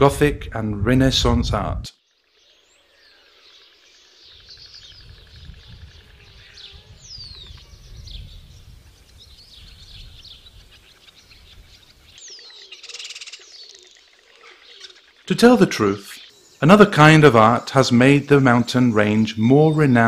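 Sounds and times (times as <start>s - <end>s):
small birds chirping and whistling: 2.1s - 20.0s.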